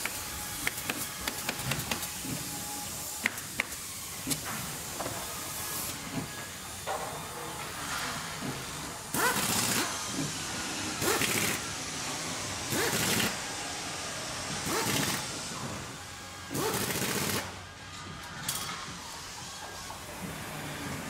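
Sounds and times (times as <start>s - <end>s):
steady machinery noise: 0.0s - 21.0s.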